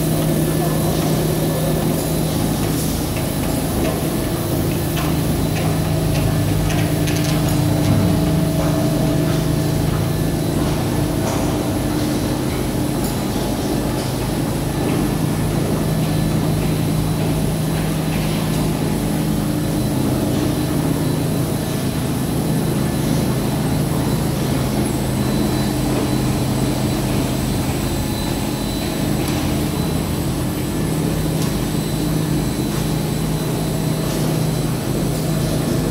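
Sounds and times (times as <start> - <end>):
carpet washing machine humming: 0.0 - 35.9.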